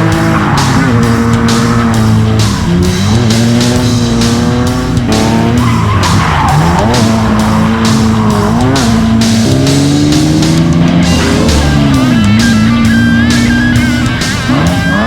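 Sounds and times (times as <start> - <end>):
car engine revving high: 0.0 - 15.0
tyres squealing: 0.0 - 15.0.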